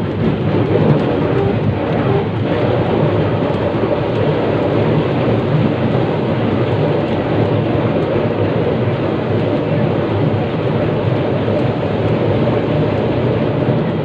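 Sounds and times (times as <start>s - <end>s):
tram rumbling from inside: 0.0s - 14.0s.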